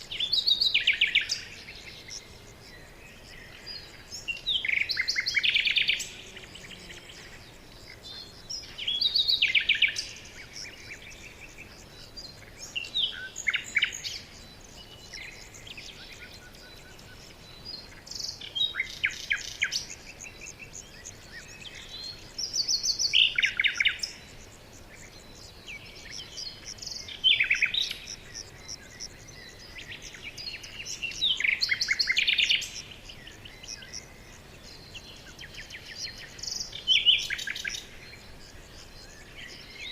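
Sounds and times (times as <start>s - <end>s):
faint background hiss: 0.0s - 39.9s
songbirds trilling: 0.0s - 39.9s.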